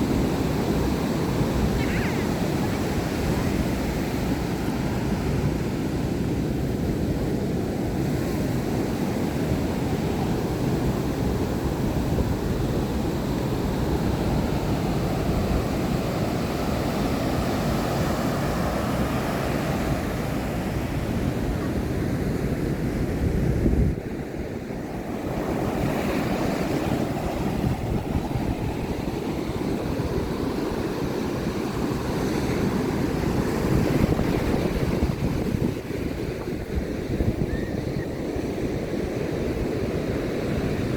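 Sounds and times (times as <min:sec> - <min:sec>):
ocean surf washing onto beach: 0:00.0 - 0:40.9
wind buffeting microphone: 0:00.0 - 0:40.9.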